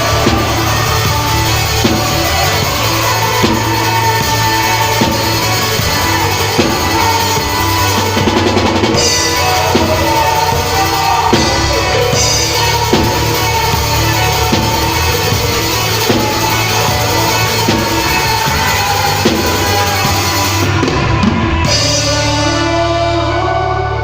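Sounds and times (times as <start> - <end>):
band playing music: 0.0 - 24.0.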